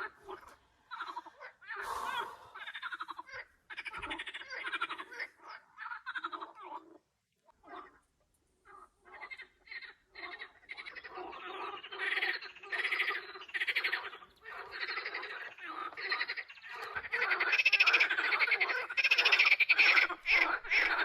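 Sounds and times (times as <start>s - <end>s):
frogs croaking in chorus: 0.0s - 21.0s.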